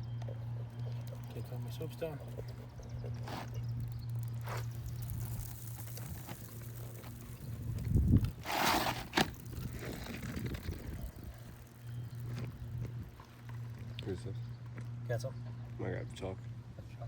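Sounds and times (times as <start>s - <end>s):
steady low hum: 0.0s - 17.0s
rustling on shingle roof: 0.3s - 14.0s.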